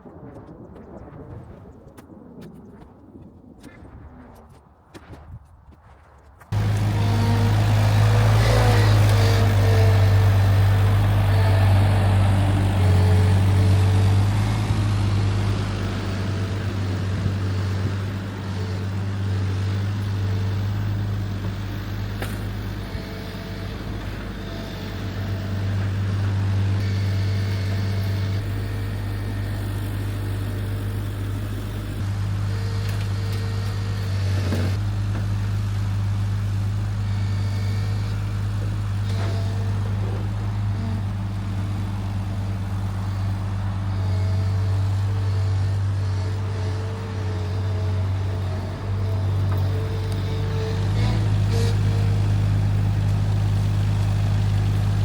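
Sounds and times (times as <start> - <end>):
engine humming steadily: 6.4 - 55.0.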